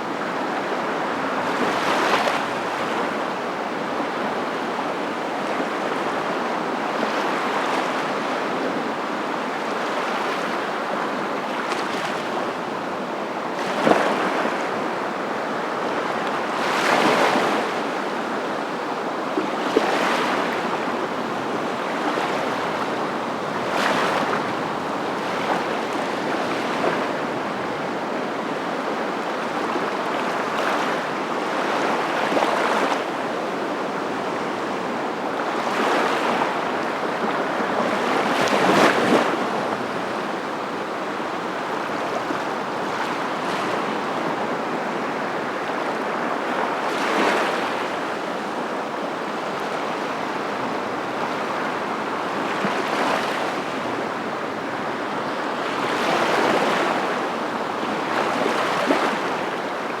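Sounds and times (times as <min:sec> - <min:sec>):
surf waves washing in: 0:00.0 - 1:00.0.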